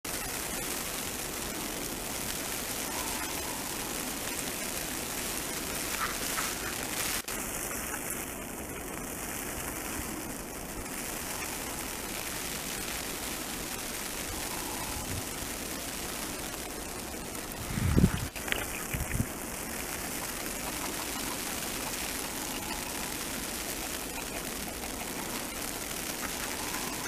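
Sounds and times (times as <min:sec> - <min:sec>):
blizzard wind hissing: 0:00.1 - 0:27.0.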